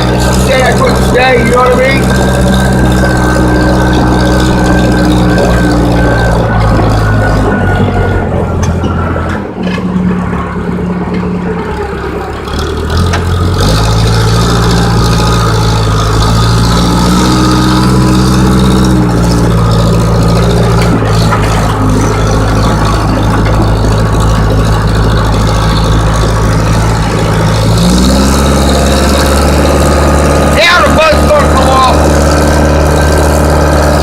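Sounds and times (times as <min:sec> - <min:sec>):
diesel engine running under load: 0:00.0 - 0:34.0.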